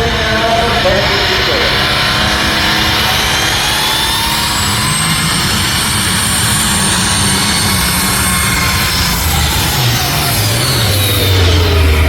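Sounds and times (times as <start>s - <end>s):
engine running hard under load: 0.0s - 12.0s
high rising whine: 0.0s - 12.0s.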